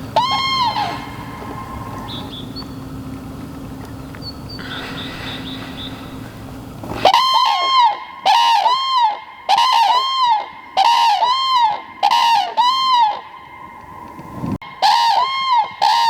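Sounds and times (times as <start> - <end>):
cranes trumpeting: 0.0 - 16.0.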